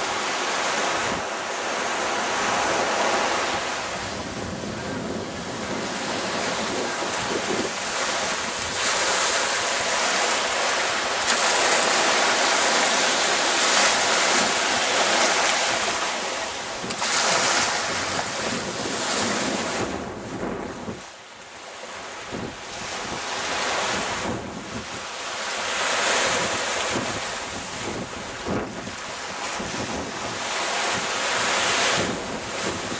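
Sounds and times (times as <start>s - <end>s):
wind buffeting microphone: 0.0s - 21.2s, 21.9s - 32.9s
small waves washing on sand: 0.0s - 32.9s.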